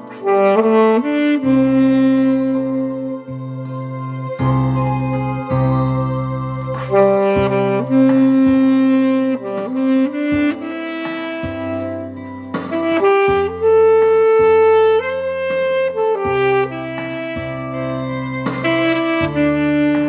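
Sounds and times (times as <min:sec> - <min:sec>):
alto saxophone slow melody: 0:00.0 - 0:20.0
backing track with bass line: 0:00.0 - 0:20.0.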